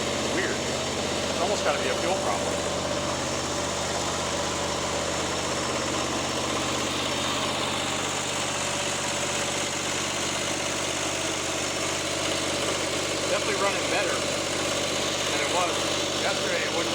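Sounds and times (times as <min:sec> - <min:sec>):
lawn mower engine idling: 0:00.0 - 0:16.9.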